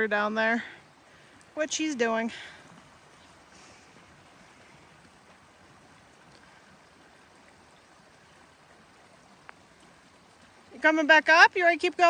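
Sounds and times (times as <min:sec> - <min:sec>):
faint stream rushing: 0:00.0 - 0:12.0.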